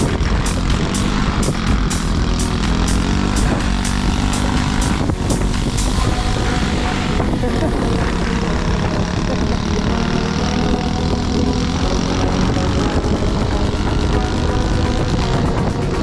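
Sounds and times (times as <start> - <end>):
small motorbike engine buzzing: 0.0 - 16.0.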